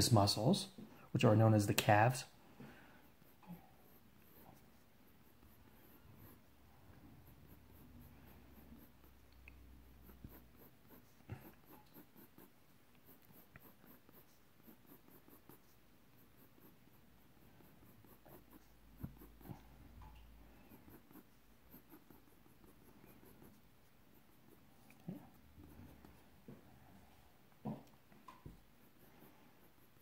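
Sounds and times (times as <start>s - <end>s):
pencil scratching on paper: 1.2s - 27.1s, 27.8s - 30.0s.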